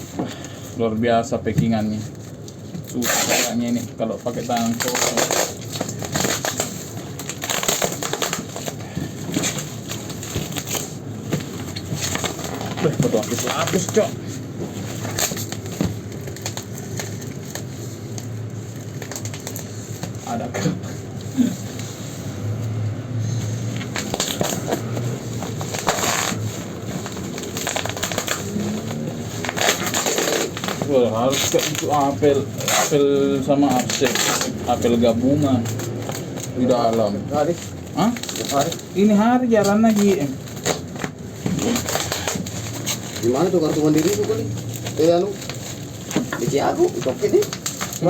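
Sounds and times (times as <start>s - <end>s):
packaging tearing and crumpling: 1.8s - 22.8s, 23.4s - 48.0s.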